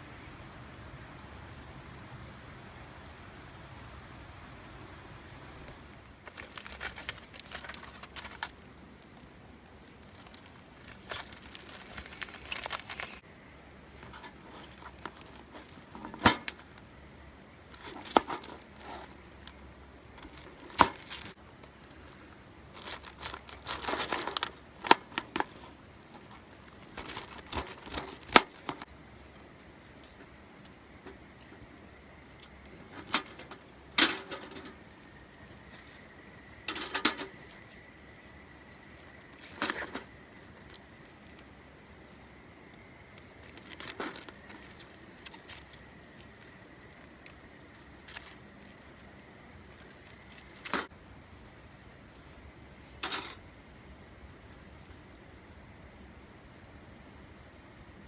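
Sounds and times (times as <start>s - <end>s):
rustling and crinkling: 5.9s - 55.3s.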